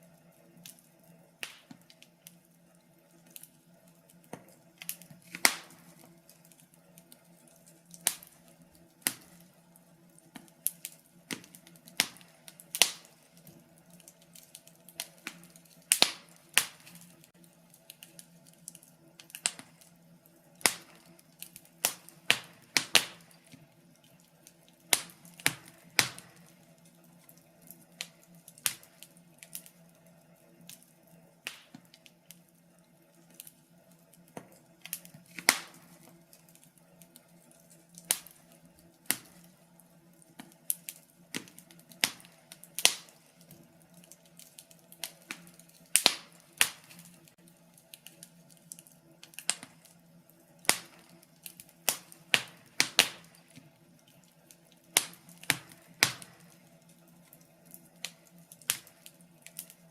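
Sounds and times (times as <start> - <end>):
wood fire popping and snapping: 0.0 - 59.9.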